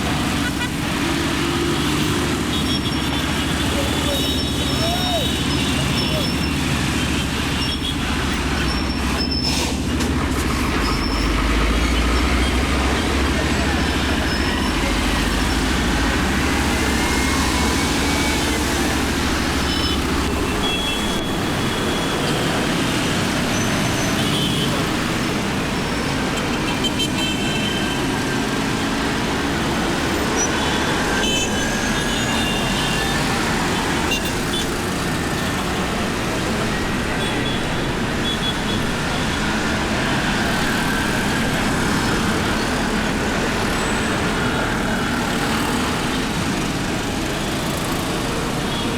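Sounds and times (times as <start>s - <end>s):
road and traffic noise: 0.0s - 48.9s.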